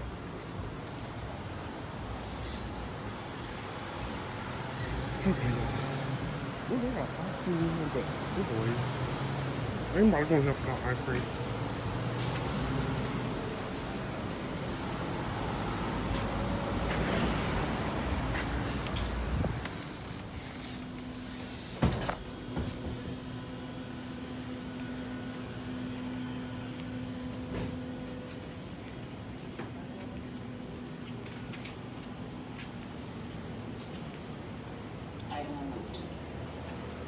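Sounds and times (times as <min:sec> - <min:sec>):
outdoor traffic noise: 0:00.0 - 0:37.0.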